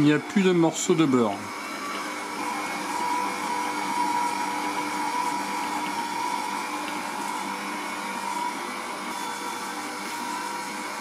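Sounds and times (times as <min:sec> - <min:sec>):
stand mixer motor whining: 0:00.0 - 0:11.0.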